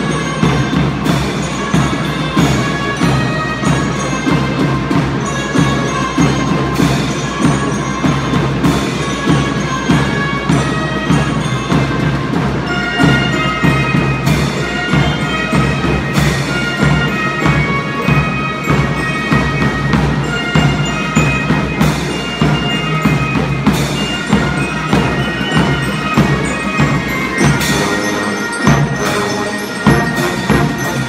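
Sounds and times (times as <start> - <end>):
drums beating steady rhythm: 0.0 - 31.0
marching band playing: 0.0 - 31.0.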